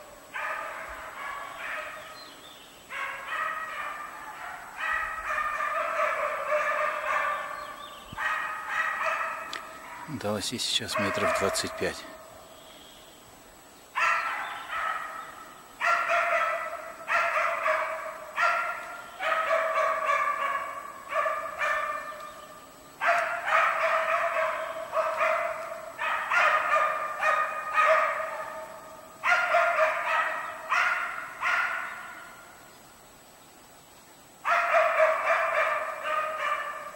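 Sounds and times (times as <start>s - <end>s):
dogs barking: 0.2s - 2.2s, 2.9s - 12.4s, 13.9s - 32.6s, 34.4s - 36.9s.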